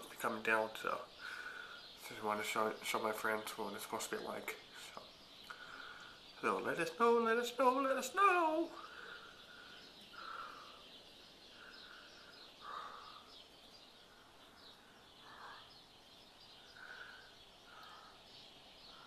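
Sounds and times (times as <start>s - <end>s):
small high bird chirps: 0.0s - 19.0s.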